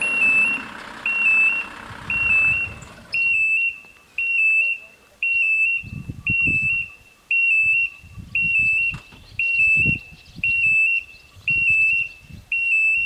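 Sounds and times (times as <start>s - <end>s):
level crossing warning beeps: 0.0s - 13.0s.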